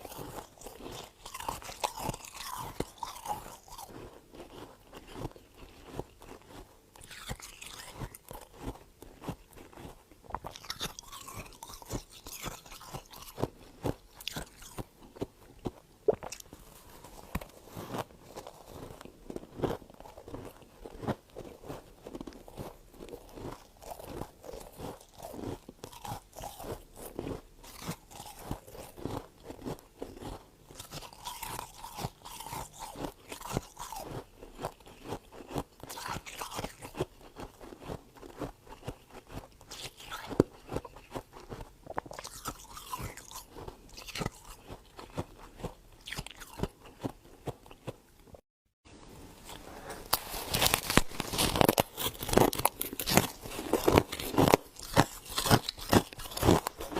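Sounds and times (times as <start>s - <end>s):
chewing crunchy frost: 0.0s - 48.4s, 49.4s - 56.9s.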